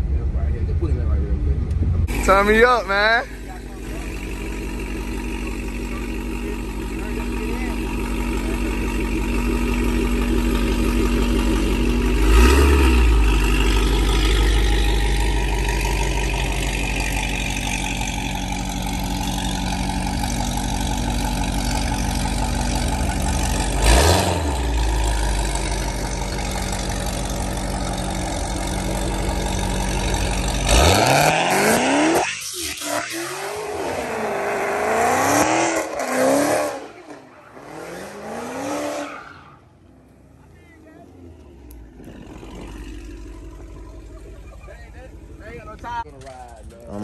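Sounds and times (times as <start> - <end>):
car engine cruising: 0.0 - 47.0.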